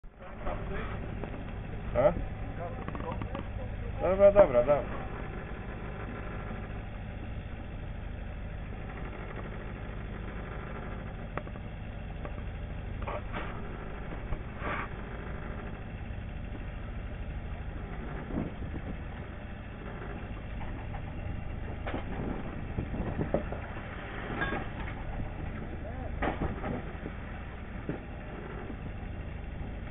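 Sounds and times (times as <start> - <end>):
boat engine idling: 0.0 - 29.9.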